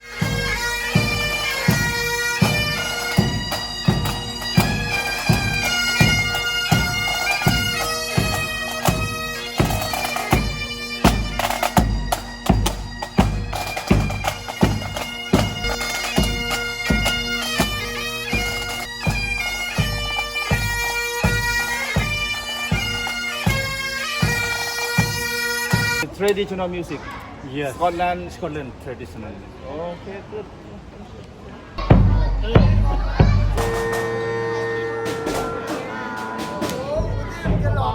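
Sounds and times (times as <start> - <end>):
drum beating time: 0.0 - 26.0, 31.8 - 37.9
bagpipes playing a tune: 0.0 - 26.1, 31.8 - 37.4.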